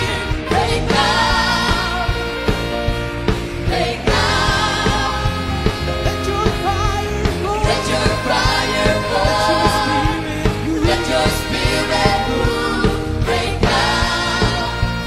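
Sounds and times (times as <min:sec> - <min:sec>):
group singing gospel: 0:00.0 - 0:02.7, 0:03.5 - 0:05.9, 0:07.6 - 0:15.0
band with drum beat: 0:00.0 - 0:15.0.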